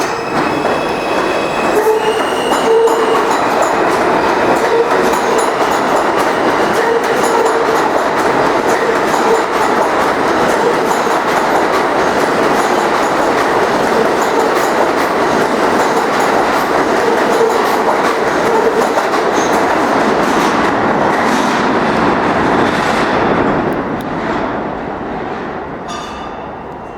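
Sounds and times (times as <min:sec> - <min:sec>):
wheels clacking over rail joints: 0:00.0 - 0:21.7
subway train rumble: 0:00.0 - 0:26.9.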